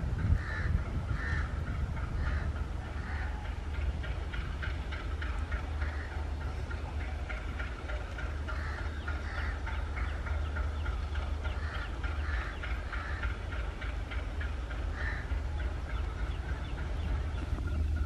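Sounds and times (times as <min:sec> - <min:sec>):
diesel locomotive engine rumbling: 0:00.0 - 0:18.0.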